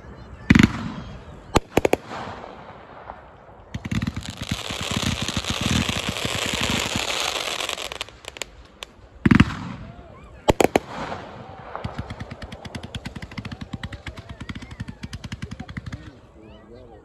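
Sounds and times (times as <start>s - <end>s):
firework sharp report: 0.4s - 16.2s
firework crackle of small pops: 0.5s - 16.1s.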